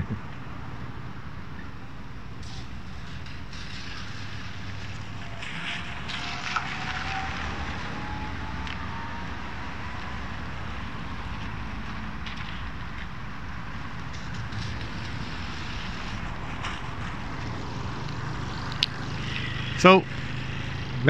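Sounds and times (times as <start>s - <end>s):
cars passing on wet road: 0.2s - 21.0s
faint rising whine: 0.6s - 21.0s.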